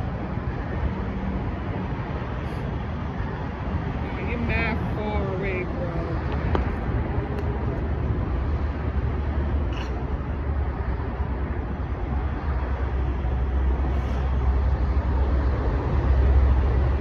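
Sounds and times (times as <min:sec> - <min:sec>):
low rumble of road noise: 0:00.0 - 0:17.0.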